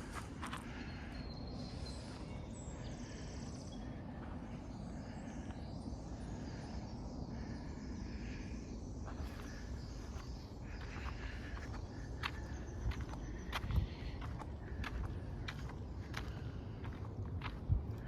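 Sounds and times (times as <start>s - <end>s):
faint bird calls: 0.0s - 18.0s
wind: 0.0s - 18.0s.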